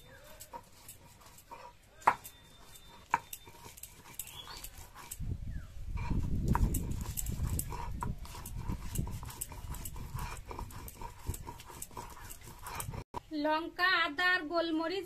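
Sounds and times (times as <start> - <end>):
stone roller grinding on slab: 0.0 - 5.2, 5.9 - 13.2.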